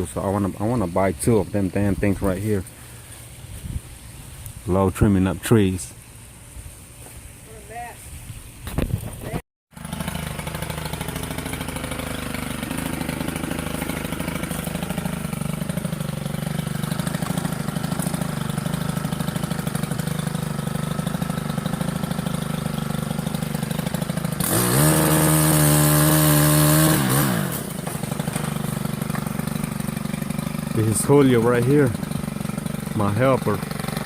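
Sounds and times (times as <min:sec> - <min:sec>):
small gas engine idling and revving: 0:00.0 - 0:05.4, 0:09.0 - 0:34.0.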